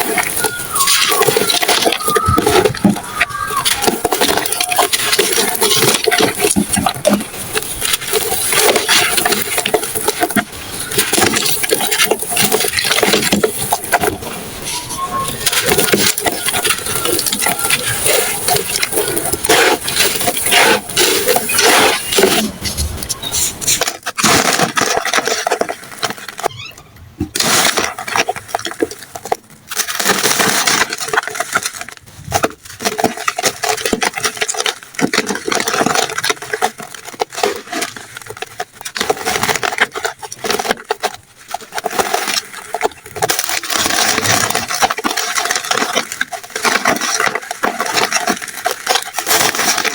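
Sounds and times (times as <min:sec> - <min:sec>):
crumbly material crunching: 0:00.0 - 0:49.9.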